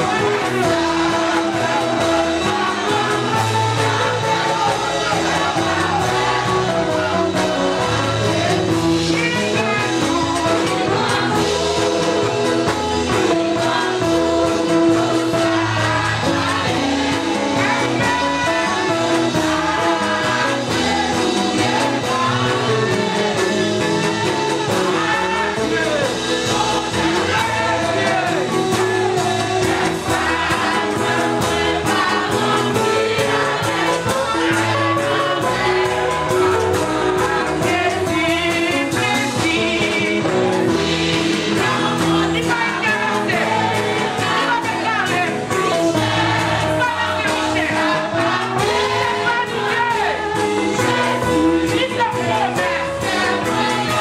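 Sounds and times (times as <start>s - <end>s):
instrumental accompaniment: 0.0s - 54.0s
women's group singing gospel: 0.0s - 54.0s.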